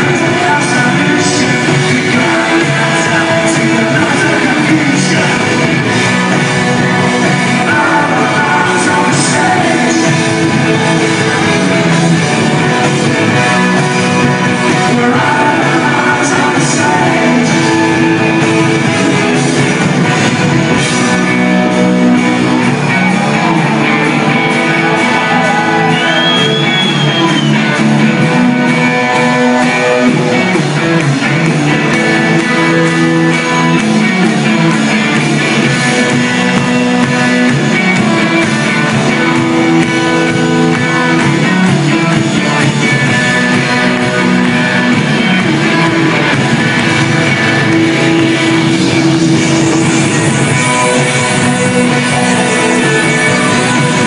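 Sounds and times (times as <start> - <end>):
drum kit: 0.0 - 54.0
electric guitars: 0.0 - 54.0
person singing: 0.0 - 54.0.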